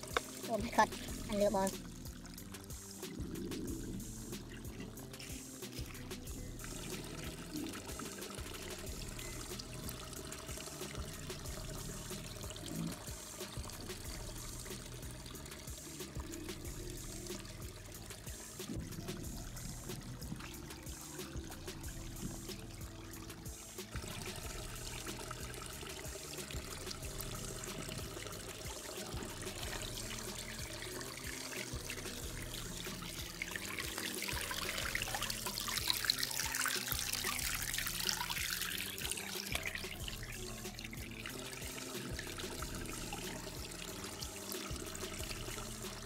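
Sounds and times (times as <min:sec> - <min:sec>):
stream trickling over rocks: 0:00.0 - 0:46.0.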